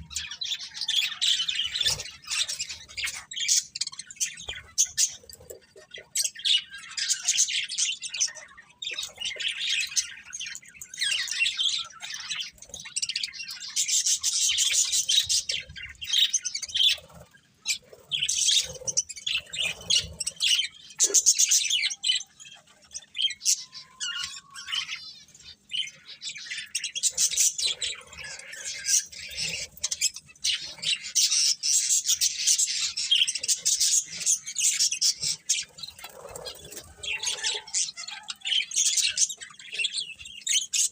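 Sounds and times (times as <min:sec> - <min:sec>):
budgies chirping: 0:00.0 - 0:40.9.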